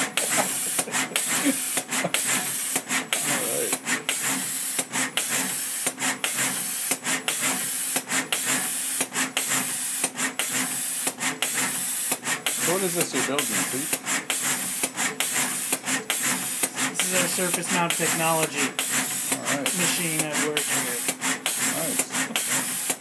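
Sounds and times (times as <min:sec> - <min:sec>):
machine hissing: 0:00.0 - 0:23.0.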